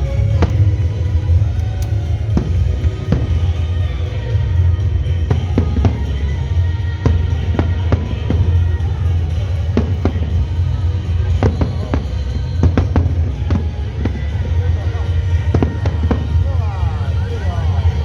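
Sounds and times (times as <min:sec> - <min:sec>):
deep rumble: 0:00.0 - 0:18.0
music: 0:00.0 - 0:18.0.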